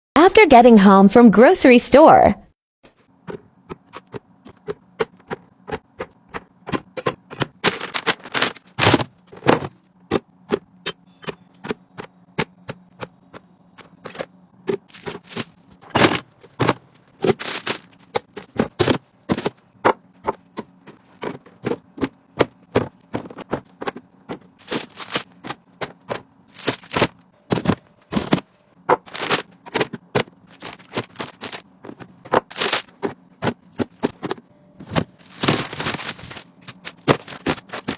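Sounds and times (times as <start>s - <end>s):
groceries knocking and scraping: 2.9s - 37.9s.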